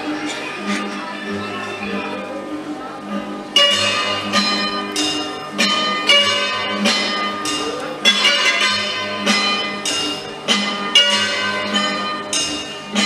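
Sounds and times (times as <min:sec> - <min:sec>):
folk dance music: 0:00.0 - 0:13.0.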